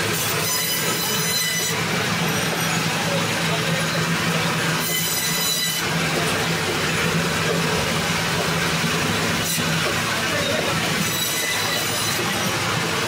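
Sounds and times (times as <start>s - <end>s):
band saw cutting fish: 0.0s - 13.0s.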